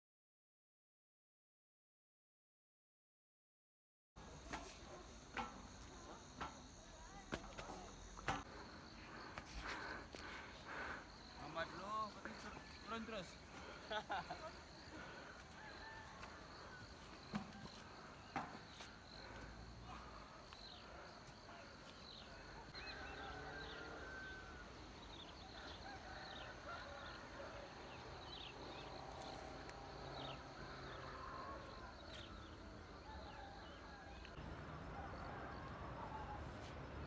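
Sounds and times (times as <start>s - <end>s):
insects droning: 4.2s - 37.0s.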